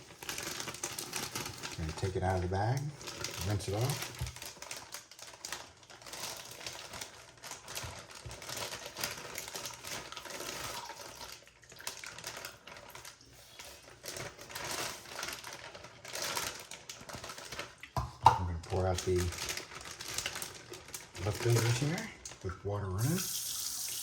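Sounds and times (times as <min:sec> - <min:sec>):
plastic bag crinkling: 0:00.0 - 0:23.7.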